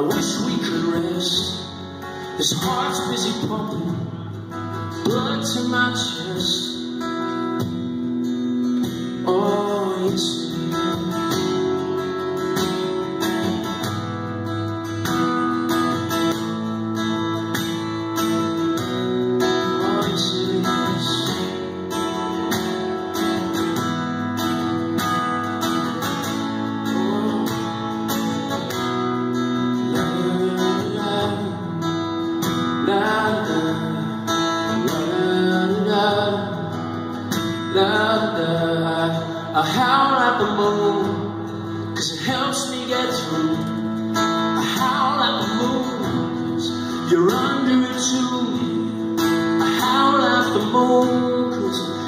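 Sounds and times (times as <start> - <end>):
acoustic guitar strummed: 0.0 - 52.0.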